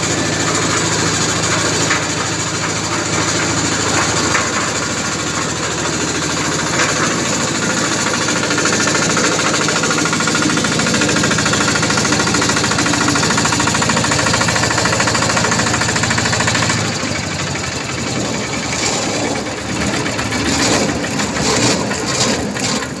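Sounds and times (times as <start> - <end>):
diesel engine chugging: 0.0 - 23.0.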